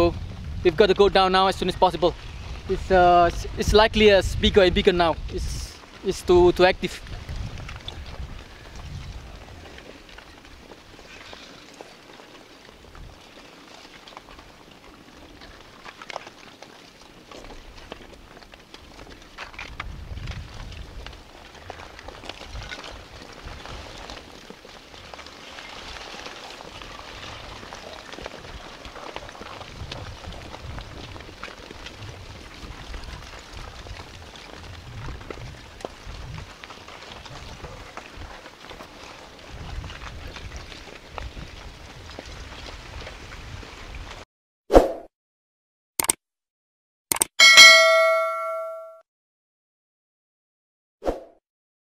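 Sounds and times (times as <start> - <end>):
lava blocks crackling and clattering: 0.0 - 44.2.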